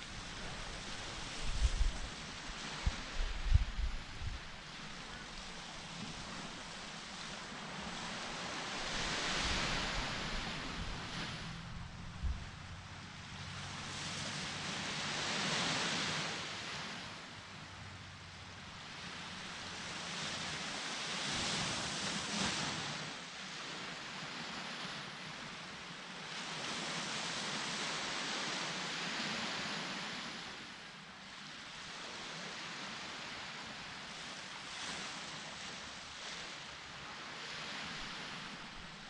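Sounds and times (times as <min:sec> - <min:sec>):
ocean waves washing onto beach: 0:00.0 - 0:39.0.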